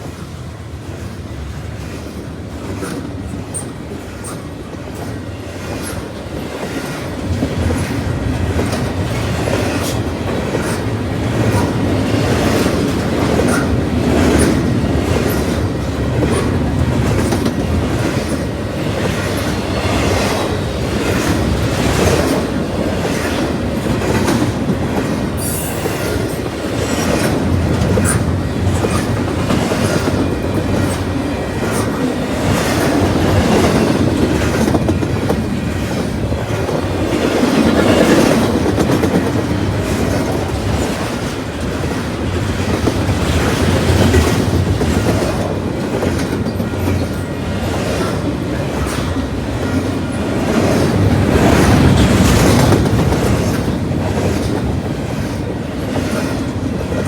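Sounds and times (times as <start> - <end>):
freight train cars rolling past: 0.0 - 57.0
wheels clicking over rail joints: 1.0 - 57.0.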